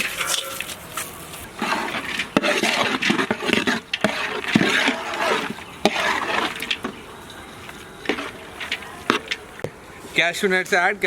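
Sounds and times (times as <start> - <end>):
spoon stirring and scraping pan: 0.0 - 9.5.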